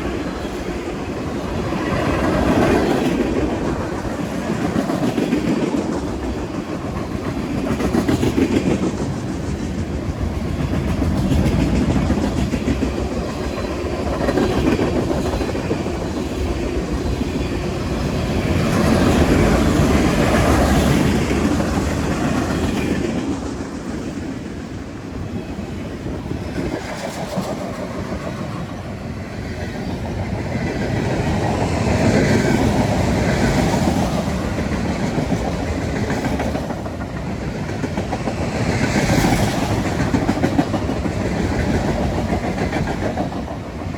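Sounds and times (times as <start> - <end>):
freight train wheels clacking: 0.0 - 43.9.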